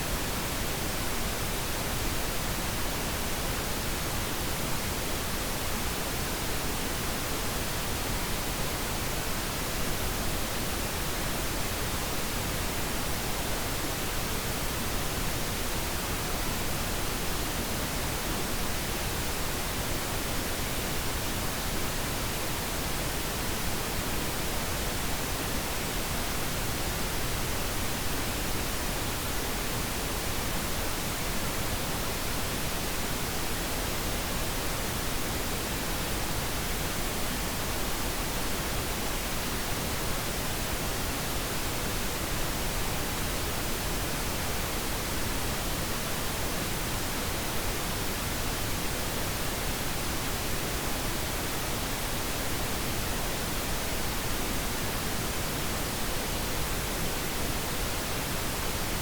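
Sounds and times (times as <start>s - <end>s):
steady pink noise hiss: 0.0s - 59.0s.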